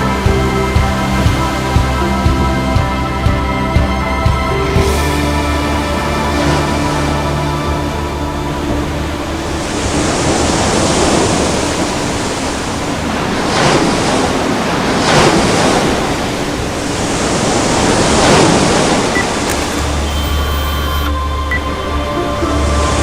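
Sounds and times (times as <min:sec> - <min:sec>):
sea waves rushing: 0:00.0 - 0:23.0.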